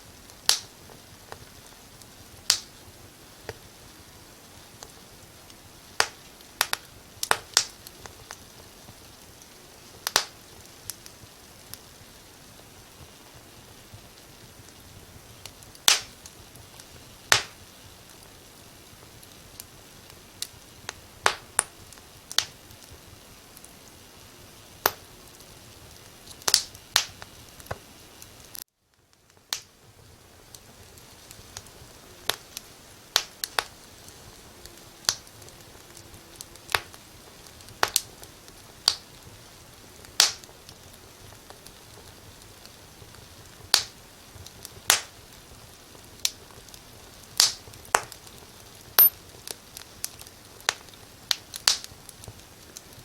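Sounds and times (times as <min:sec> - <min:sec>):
soft steady hiss: 0:00.0 - 0:53.0
wood fire crackling and popping: 0:00.0 - 0:53.0.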